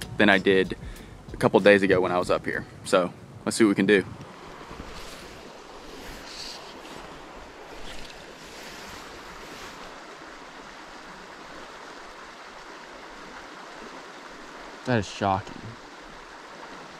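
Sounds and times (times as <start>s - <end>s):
creek rushing: 0.0s - 16.9s.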